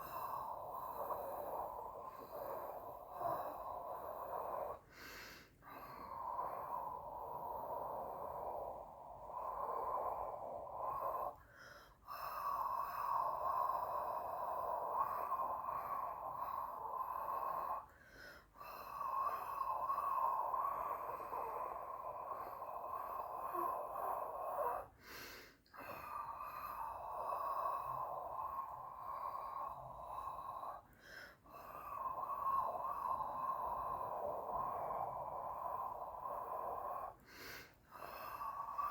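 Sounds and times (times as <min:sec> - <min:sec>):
person breathing deeply: 0:00.0 - 0:38.9.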